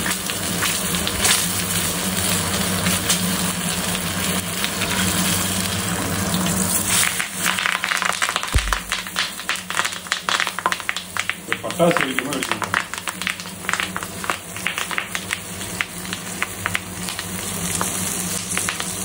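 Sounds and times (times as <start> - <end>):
fish sizzling in oil: 0.0 - 19.0
oil crackling and popping: 0.0 - 19.0.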